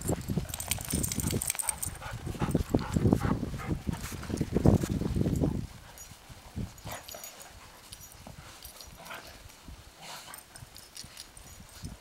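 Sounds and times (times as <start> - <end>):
dog paws scuffing in snow: 1.6 - 12.0.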